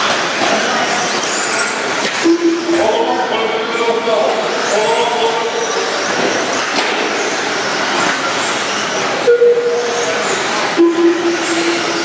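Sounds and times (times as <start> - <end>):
rc cars whirring and whining: 0.0 - 2.8, 3.6 - 12.0
steady humming tone: 1.8 - 12.0.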